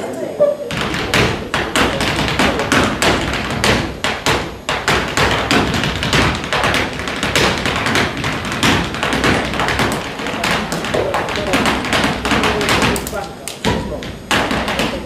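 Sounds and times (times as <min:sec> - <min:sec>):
dance shoes tapping on wooden floor: 0:00.7 - 0:15.0.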